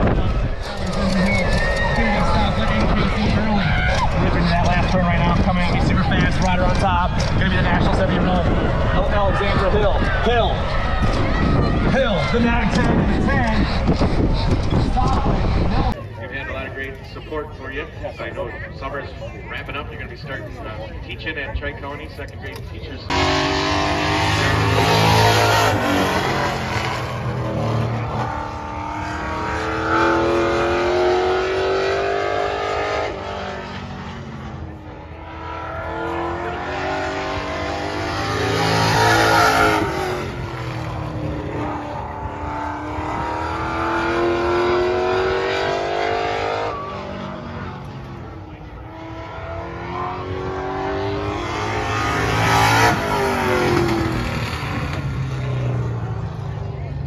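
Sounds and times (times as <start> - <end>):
stock car engine passing: 0.0 - 16.0, 23.1 - 57.0.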